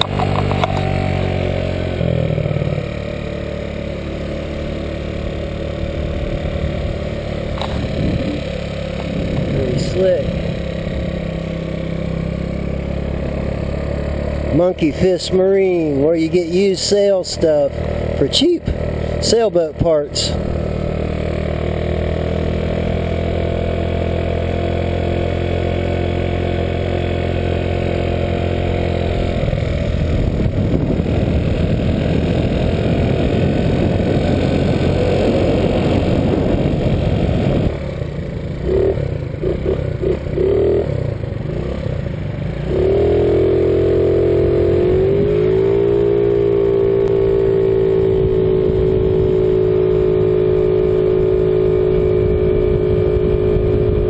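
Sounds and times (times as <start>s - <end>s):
motor scooter engine running: 0.0s - 54.0s.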